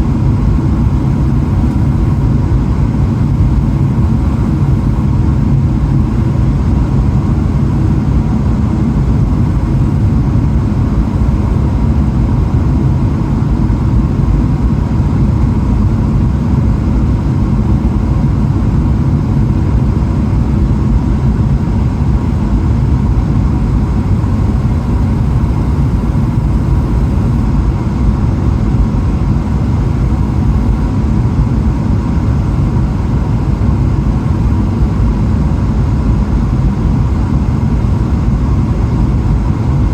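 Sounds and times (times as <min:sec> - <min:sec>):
airplane cabin airflow and engine drone: 0:00.0 - 0:39.9
faint steady whine: 0:00.0 - 0:39.9.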